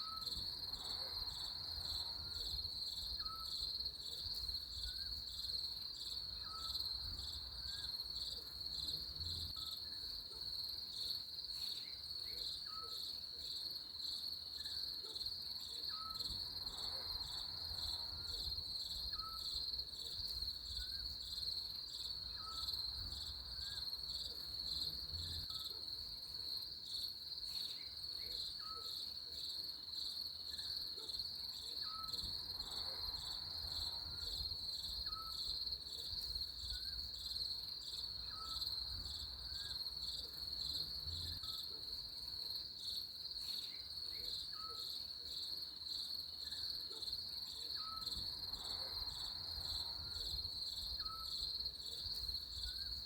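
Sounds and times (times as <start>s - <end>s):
crickets chorus: 0.0s - 53.0s.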